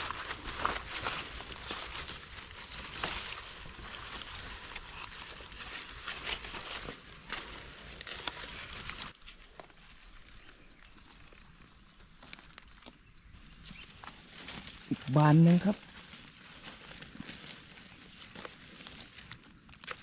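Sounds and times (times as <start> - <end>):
dry leaves rustling and crackling: 0.0 - 20.0.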